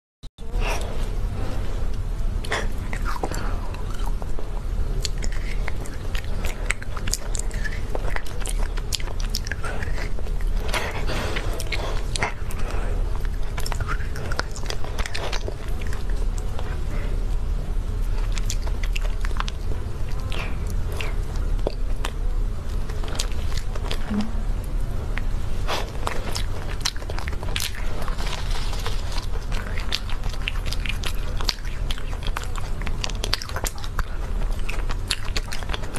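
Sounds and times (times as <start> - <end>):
low rumble: 0.4 - 31.4
low steady hum: 0.4 - 35.9
person biting and chewing cake: 0.4 - 35.9
mouth clicks and crackles: 1.9 - 17.1, 18.0 - 35.9.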